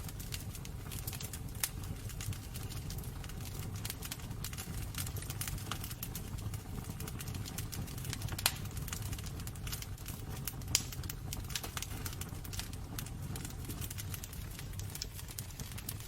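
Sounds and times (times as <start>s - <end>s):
loud fire pops: 0.0s - 16.0s
wood fire crackling: 0.0s - 16.0s.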